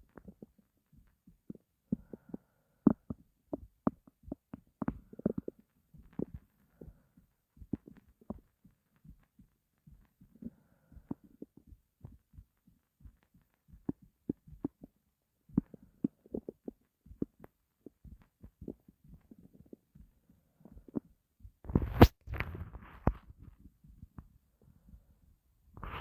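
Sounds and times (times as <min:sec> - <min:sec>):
stomach gurgling: 0:00.0 - 0:09.2, 0:09.9 - 0:24.4, 0:25.8 - 0:26.0.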